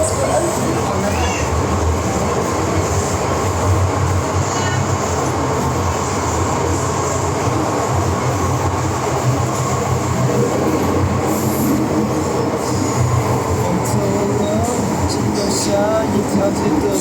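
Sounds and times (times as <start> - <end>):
train wheels rumbling in tunnel: 0.0 - 17.0.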